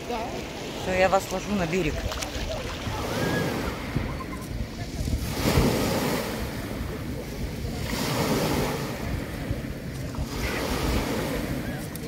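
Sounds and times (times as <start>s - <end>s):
waves washing onto shore: 0.0s - 12.0s
wind buffeting microphone: 0.0s - 12.0s.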